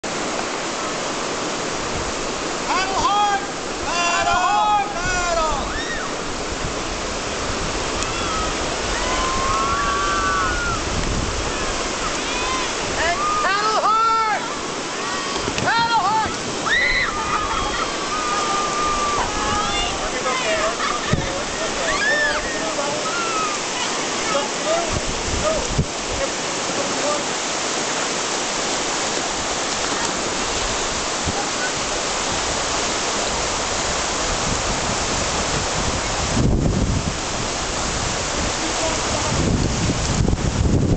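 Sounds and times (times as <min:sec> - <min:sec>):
whitewater rapids rushing over rock: 0:00.0 - 0:40.9.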